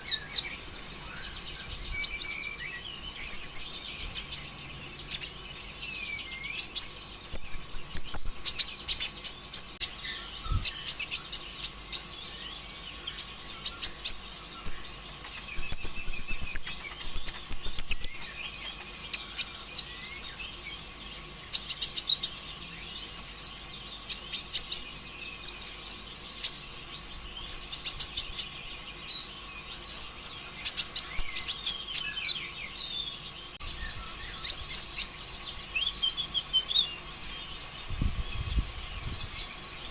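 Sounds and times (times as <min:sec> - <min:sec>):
faint steady hum: 0:00.0 - 0:39.9
sunbird chattering song: 0:00.0 - 0:39.9.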